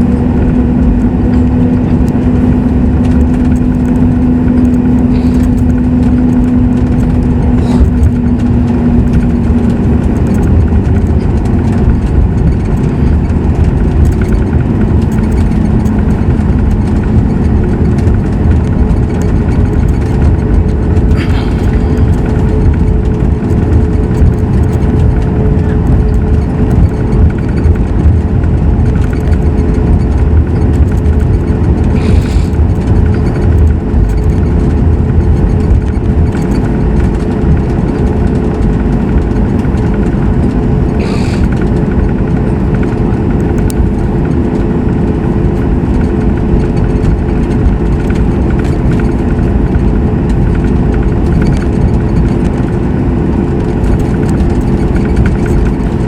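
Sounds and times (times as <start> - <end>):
airliner cabin hum and rumble: 0.0 - 56.0.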